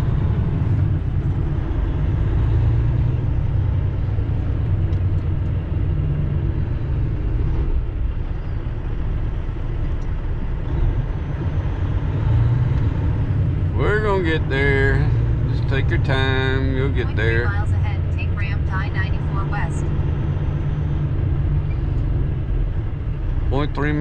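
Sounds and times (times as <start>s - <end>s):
diesel truck engine rumble: 0.0s - 24.0s.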